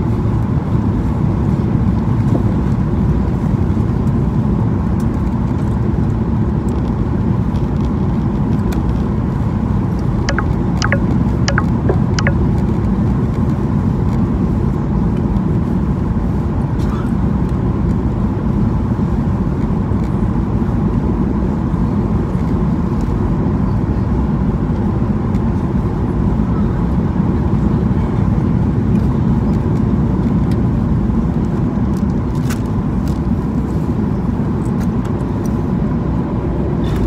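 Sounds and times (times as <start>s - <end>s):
airflow and engine rumble: 0.0s - 37.0s.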